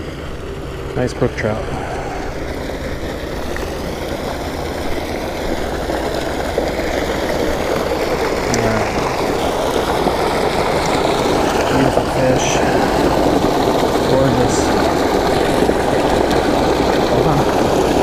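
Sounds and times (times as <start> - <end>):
water gushing into a pond: 0.0 - 18.0.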